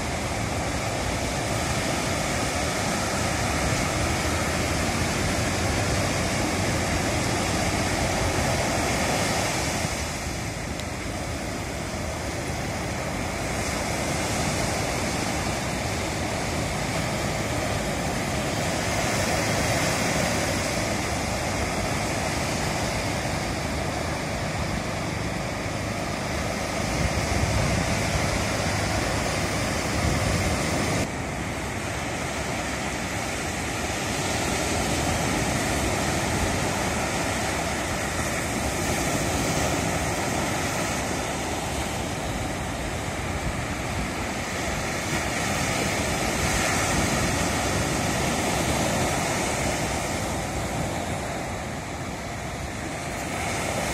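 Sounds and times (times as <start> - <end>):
waves breaking on sandy beach: 0.0 - 53.9.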